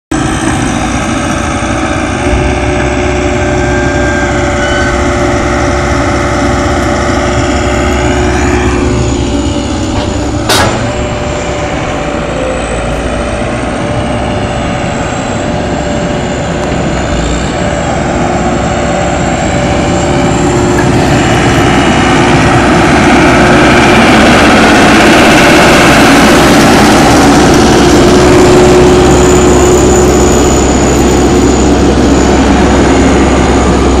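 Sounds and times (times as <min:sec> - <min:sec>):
diesel engine running: 0:00.1 - 0:34.0.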